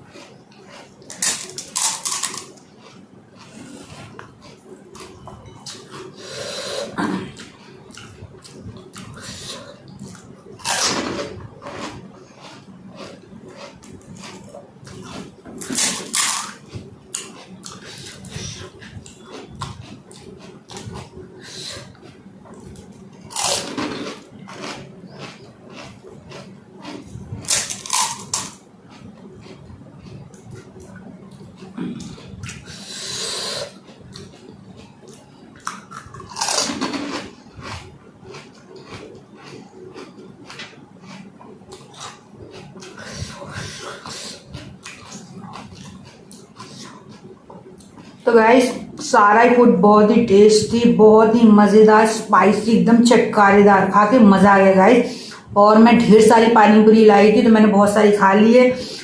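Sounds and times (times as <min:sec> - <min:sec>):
wet chewing and crunching: 0:00.0 - 0:06.7, 0:07.3 - 0:49.1.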